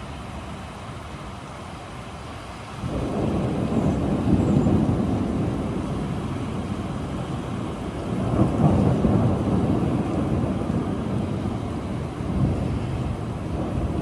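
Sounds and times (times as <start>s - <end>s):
steady rain: 0.0s - 14.0s
thunder rumbling: 2.8s - 14.0s.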